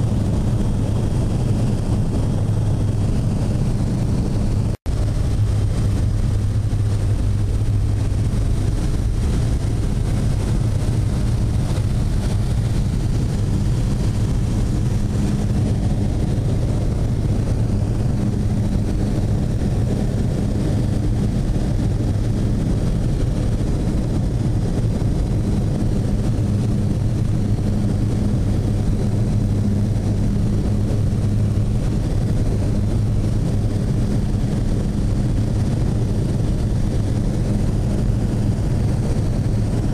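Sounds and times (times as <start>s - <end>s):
plane engine and propeller drone: 0.0s - 39.9s.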